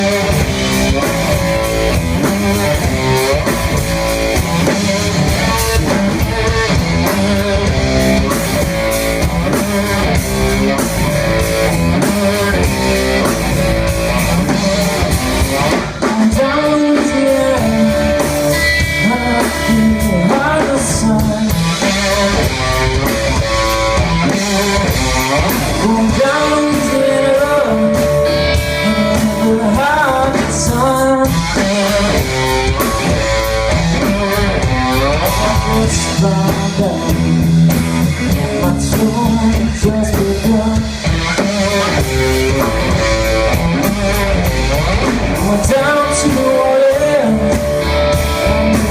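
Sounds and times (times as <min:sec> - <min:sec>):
amplified guitar: 0:00.0 - 0:48.9
drum kit: 0:00.0 - 0:48.9.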